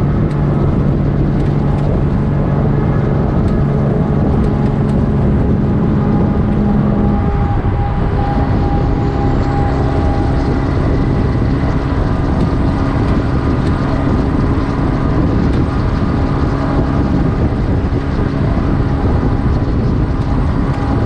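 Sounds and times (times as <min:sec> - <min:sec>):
truck diesel engine running: 0:00.0 - 0:21.0.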